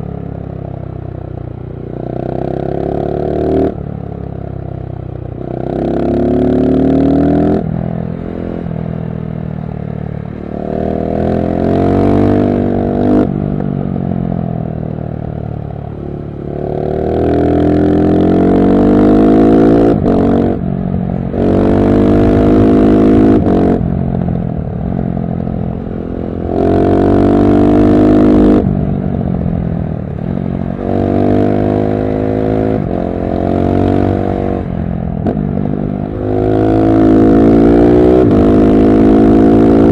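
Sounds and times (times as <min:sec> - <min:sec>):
motorcycle engine accelerating hard: 0:00.0 - 0:04.6, 0:05.2 - 0:39.9.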